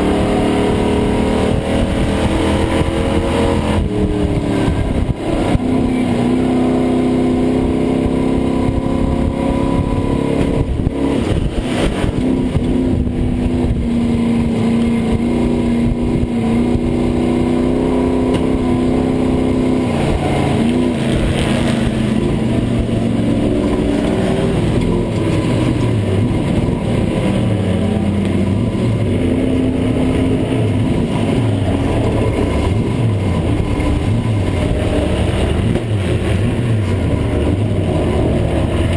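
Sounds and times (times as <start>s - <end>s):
truck engine running: 0.0s - 6.8s, 7.4s - 38.9s.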